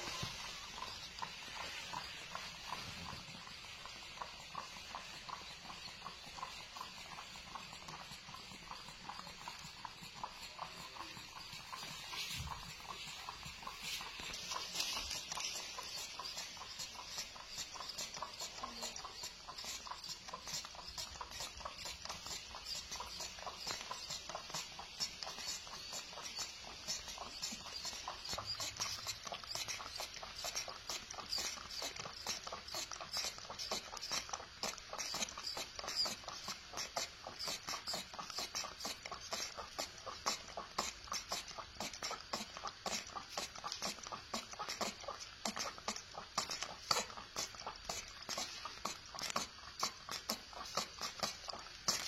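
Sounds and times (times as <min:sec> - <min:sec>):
monkeys sucking and smacking: 0:00.0 - 0:52.0.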